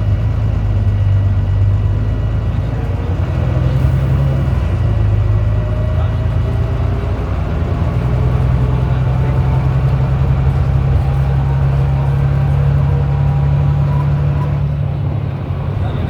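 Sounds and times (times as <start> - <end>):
bus diesel engine running: 0.0 - 16.0
faint engine whine: 0.0 - 16.0.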